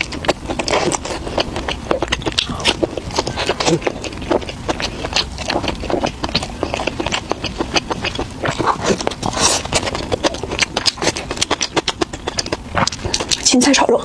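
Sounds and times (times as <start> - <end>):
person chewing crisp food: 0.0 - 13.8.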